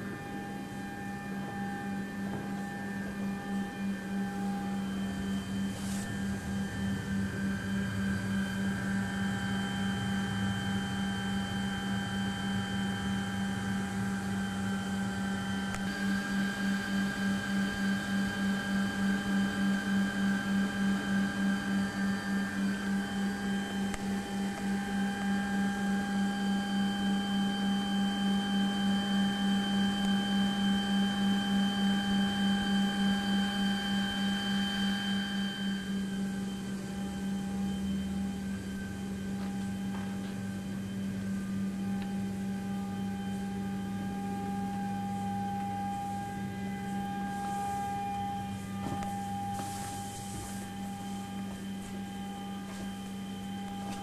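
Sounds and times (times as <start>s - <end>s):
pulsing electrical hum: 0.0s - 54.0s
thin high whining tones: 0.0s - 54.0s.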